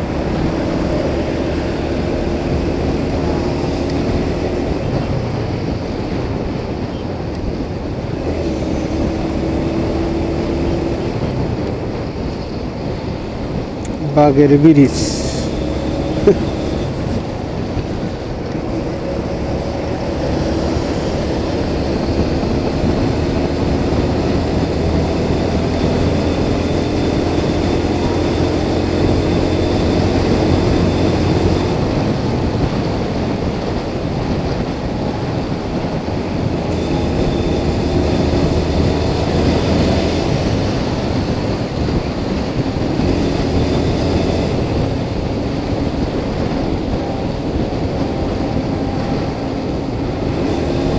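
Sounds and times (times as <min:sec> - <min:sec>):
motorcycle engine drone: 0:00.0 - 0:50.9
rushing wind: 0:00.0 - 0:50.9.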